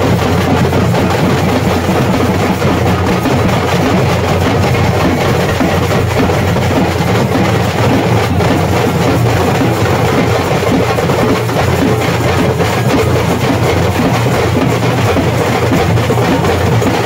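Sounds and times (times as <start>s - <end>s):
loud music with drums: 0.0s - 17.0s.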